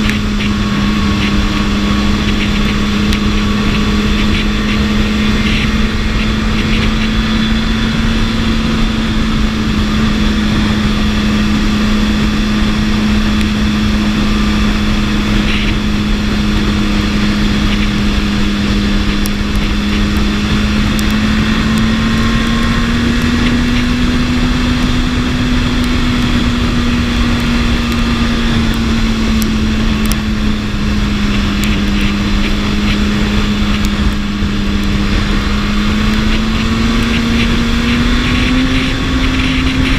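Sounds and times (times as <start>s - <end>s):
motorcycle engine cruising: 0.0s - 39.9s
steady rush of noise: 0.0s - 39.9s.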